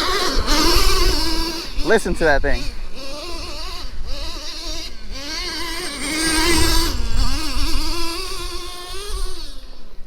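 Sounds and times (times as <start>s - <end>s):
nitro engine revving: 0.0s - 10.0s.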